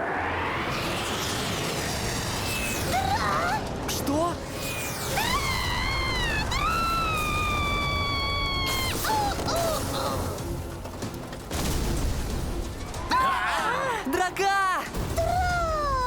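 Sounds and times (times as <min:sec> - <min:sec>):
action score music: 0:00.0 - 0:16.0.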